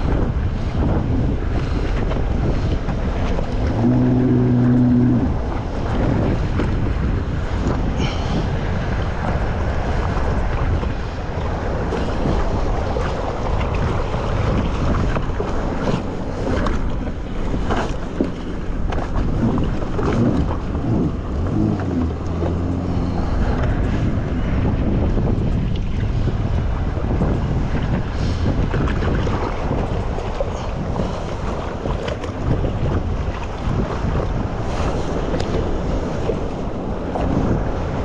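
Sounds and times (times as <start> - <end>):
jet ski engine hum: 0.0 - 38.0
water noise: 0.0 - 38.0
wind buffeting microphone: 0.0 - 38.0.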